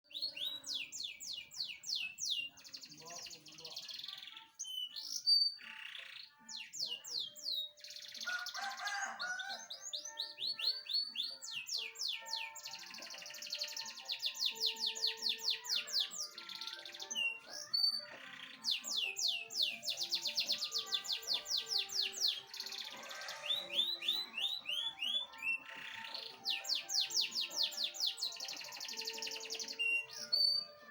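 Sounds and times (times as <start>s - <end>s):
canary singing trills: 0.0s - 30.9s.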